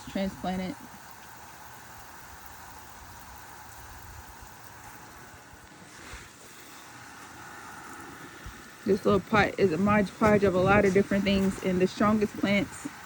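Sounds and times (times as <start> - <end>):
garden hose spraying water: 0.0 - 13.0.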